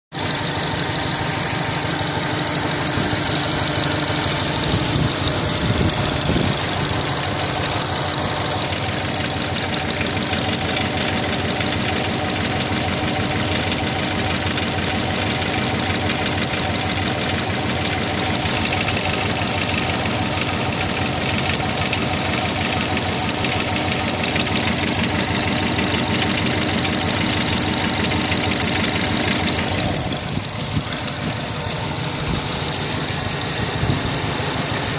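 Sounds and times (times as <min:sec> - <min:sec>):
car engine running: 0:00.1 - 0:34.9
rapid regular engine knock: 0:00.2 - 0:34.9.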